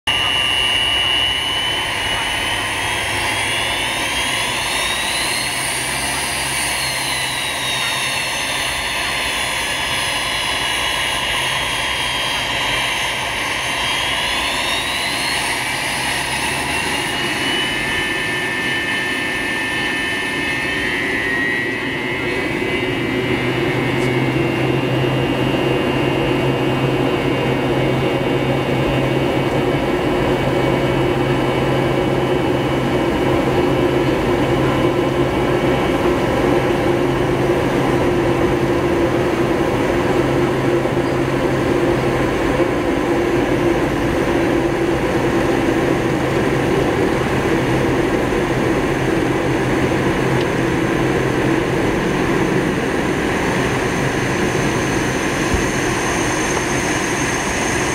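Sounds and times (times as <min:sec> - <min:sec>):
jet engine roar with whine: 0:00.0 - 0:57.9.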